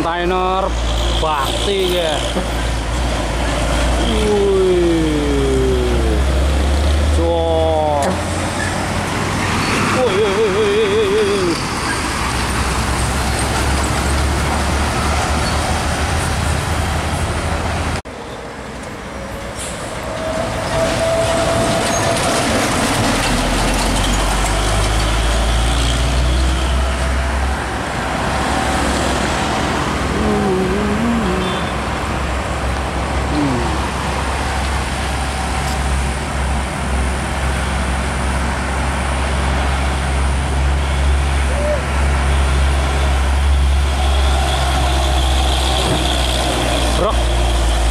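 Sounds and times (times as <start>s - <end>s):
heavy truck engine rumble: 0.0s - 47.9s.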